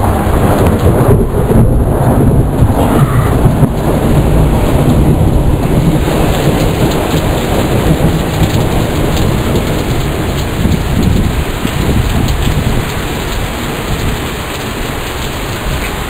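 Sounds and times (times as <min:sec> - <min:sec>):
heavy rain pouring: 0:00.0 - 0:16.0
low rumble of thunder: 0:00.0 - 0:16.0.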